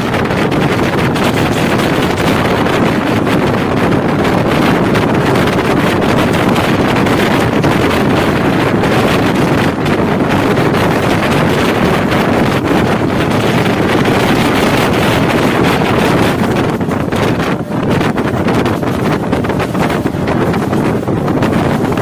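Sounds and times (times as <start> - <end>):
train rumbling on rails: 0.0 - 22.0
wind rushing over microphone: 0.0 - 22.0.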